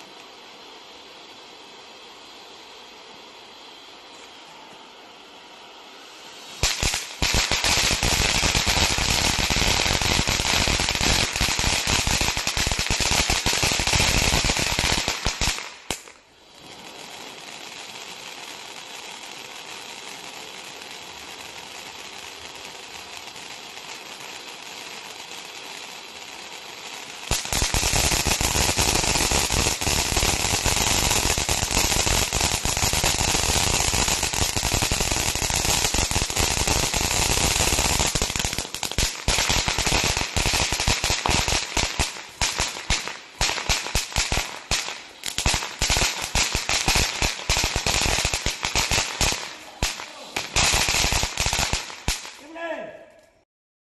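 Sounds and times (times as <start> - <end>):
firework fountain hissing: 0.0 - 53.3
firework fountains crackling: 0.0 - 53.4.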